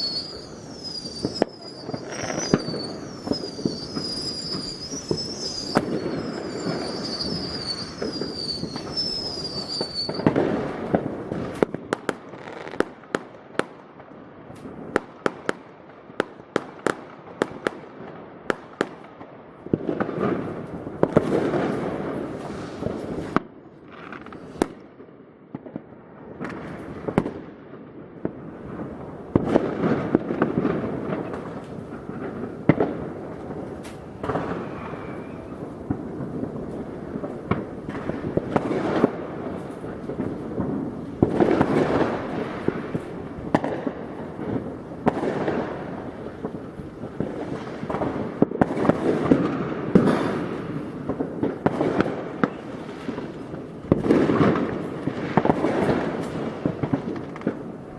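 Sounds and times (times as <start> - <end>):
fireworks bangs: 0.0 - 57.9
fireworks crackling and popping: 0.0 - 57.9.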